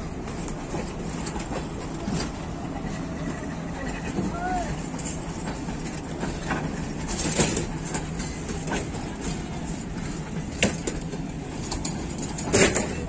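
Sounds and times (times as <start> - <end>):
train wheels rumbling on track: 0.0 - 13.0
wheels clacking over rail joints: 0.0 - 13.0.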